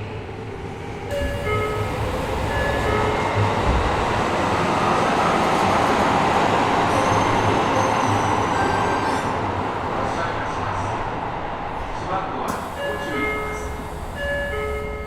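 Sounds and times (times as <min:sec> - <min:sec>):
subway wheels rumbling on rail: 0:00.0 - 0:15.0.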